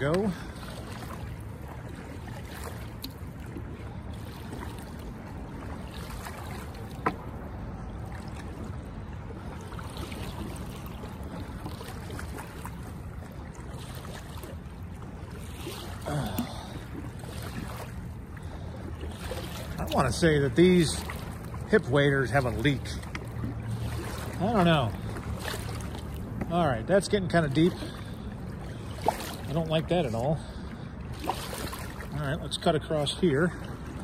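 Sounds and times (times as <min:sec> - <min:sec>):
legs sloshing through water: 0:00.0 - 0:34.0.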